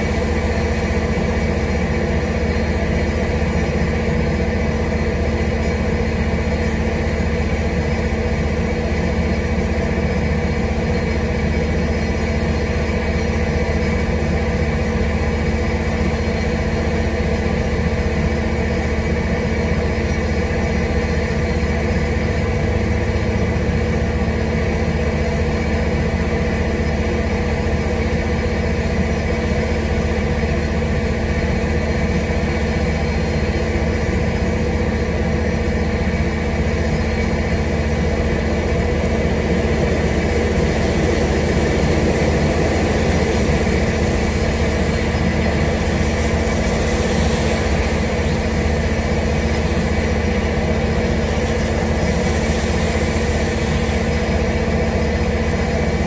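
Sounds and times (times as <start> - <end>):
mechanical hum: 0.0 - 56.0.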